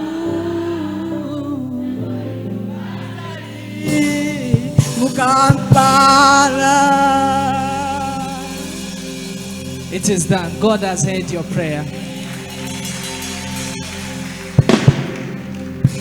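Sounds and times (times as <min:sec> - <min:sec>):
gospel singing: 0:00.0 - 0:16.0
keyboard chords: 0:00.0 - 0:16.0.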